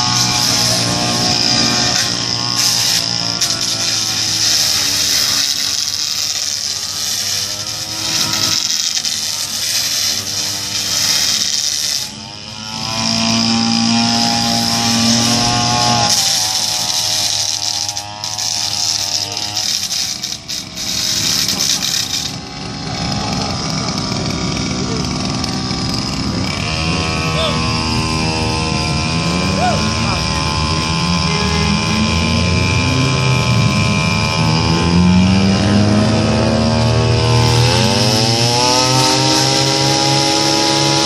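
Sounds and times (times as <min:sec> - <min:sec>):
blade grinding on pavement: 0:00.0 - 0:41.0
brush cutter engine revving: 0:00.0 - 0:41.0.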